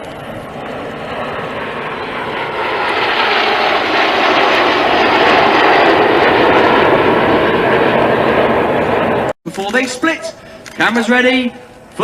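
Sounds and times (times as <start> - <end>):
jet aircraft rushing noise: 0.0 - 12.0.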